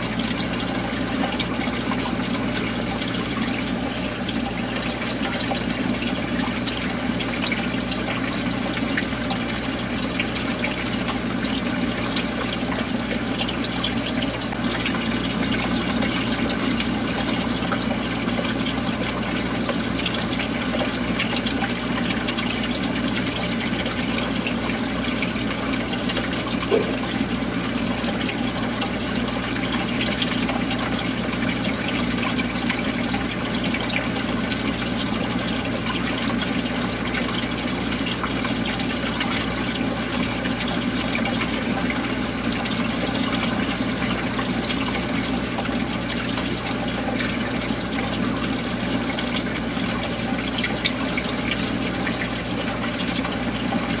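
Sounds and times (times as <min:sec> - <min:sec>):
aquarium water trickling: 0:00.0 - 0:54.0
low steady hum: 0:00.0 - 0:54.0.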